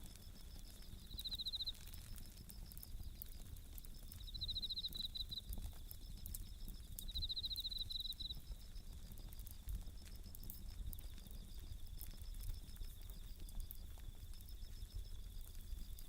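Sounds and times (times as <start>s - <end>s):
campfire crackling: 0.0s - 16.0s
crickets chirping trills: 0.0s - 16.0s
insect chorus: 0.0s - 16.0s.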